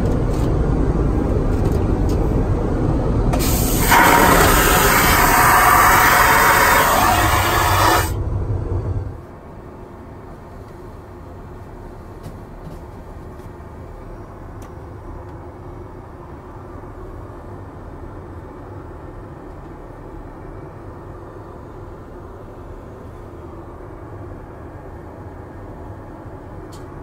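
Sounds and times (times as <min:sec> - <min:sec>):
airliner cabin drone: 0:00.0 - 0:27.0.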